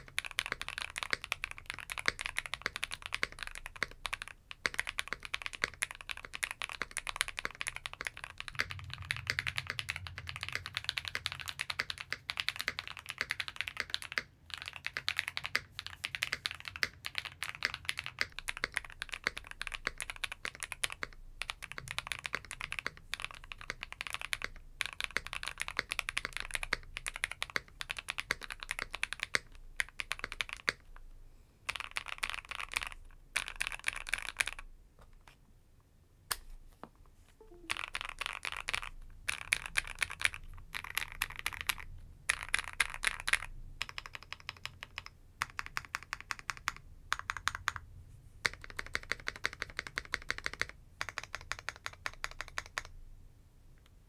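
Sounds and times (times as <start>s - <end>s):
fast typing on mechanical keyboard: 0.0s - 30.9s, 31.7s - 34.7s, 37.6s - 47.8s, 48.4s - 53.0s.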